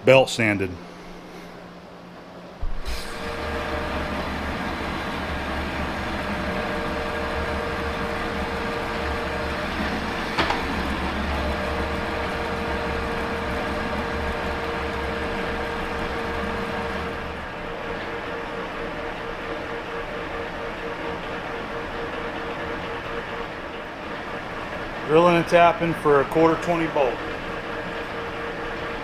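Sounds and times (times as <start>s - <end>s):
metal lathe motor hum: 3.0s - 29.0s.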